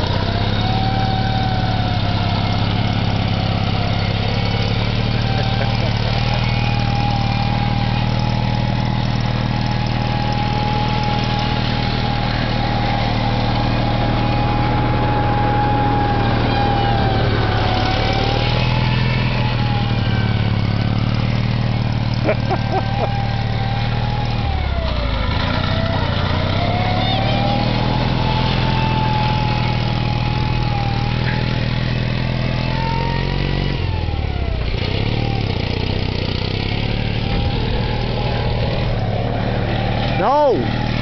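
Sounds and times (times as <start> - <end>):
vehicle engine running: 0.0 - 41.0.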